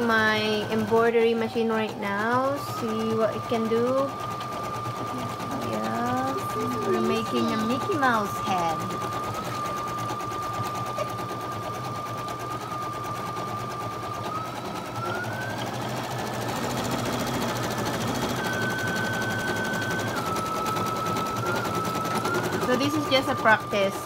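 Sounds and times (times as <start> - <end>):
embroidery machine needle chatter: 0.0 - 24.0
motor whine: 0.0 - 24.0.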